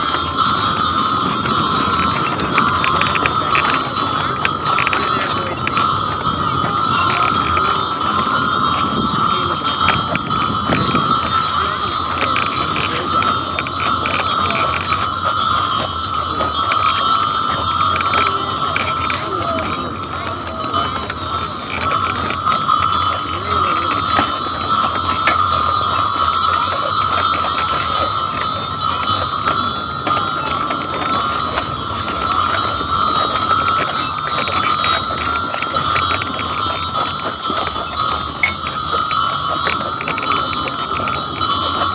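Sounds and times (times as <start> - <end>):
harness bells jingling: 0.0 - 41.9
hooves clattering on snow: 0.0 - 41.9
wagon rattle: 0.0 - 41.9.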